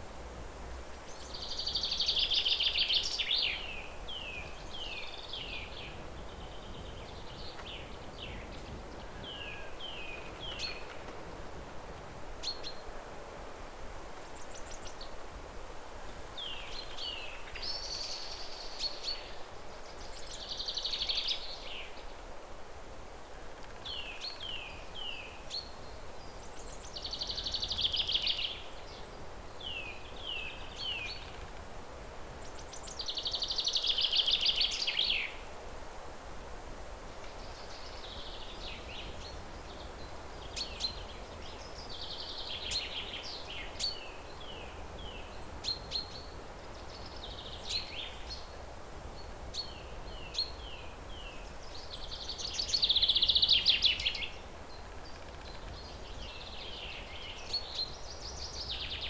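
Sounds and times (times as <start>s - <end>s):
outdoor ambience hiss: 0.0s - 59.0s.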